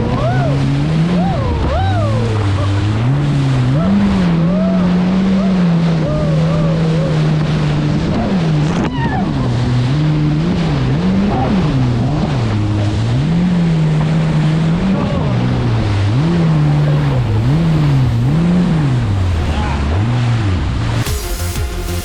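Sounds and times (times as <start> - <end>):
jet ski engine revving: 0.0 - 22.0
water rushing: 0.0 - 22.0.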